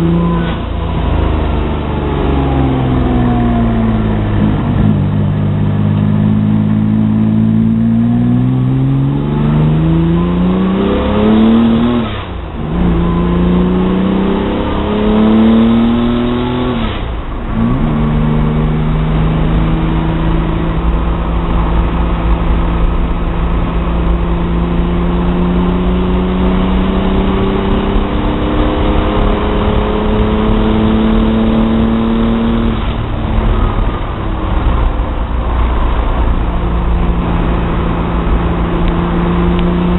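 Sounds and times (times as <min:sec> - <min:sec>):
engine revving under load: 0:00.0 - 0:39.9.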